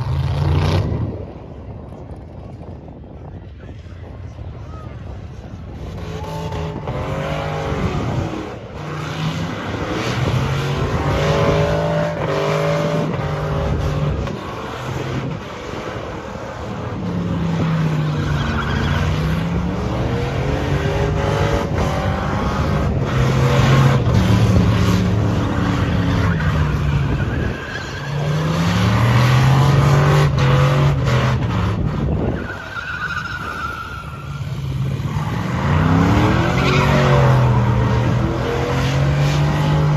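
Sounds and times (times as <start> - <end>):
truck engine revving: 5.8 - 39.9.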